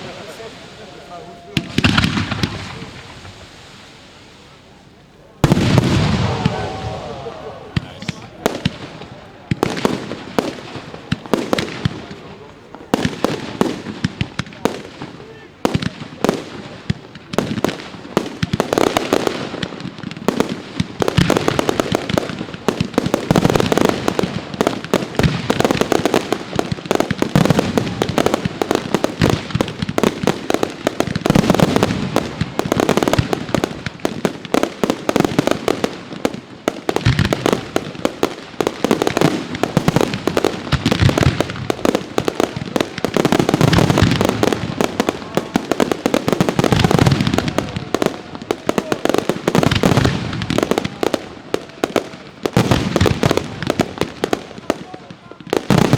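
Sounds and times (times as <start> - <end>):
fireworks bangs and pops: 0.0 - 55.9.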